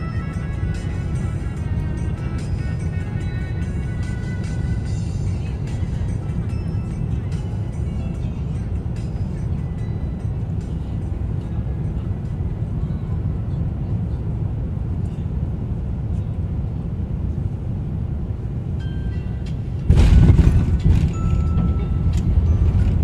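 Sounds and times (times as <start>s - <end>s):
airplane cabin rumble: 0.0s - 23.0s
wheels rumbling on runway: 0.0s - 23.0s.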